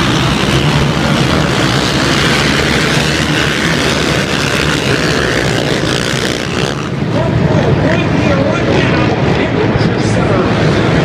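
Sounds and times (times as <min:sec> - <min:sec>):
quad engines racing: 0:00.0 - 0:11.0.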